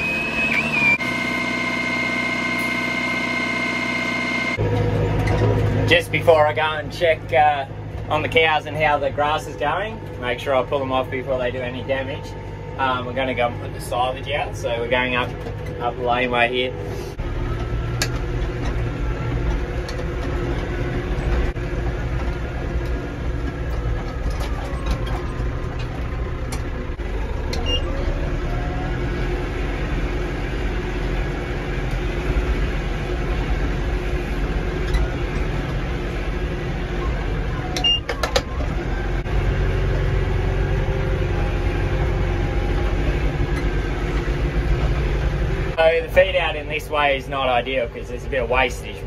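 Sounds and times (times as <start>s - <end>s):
tractor engine rumbling: 0.0s - 49.0s.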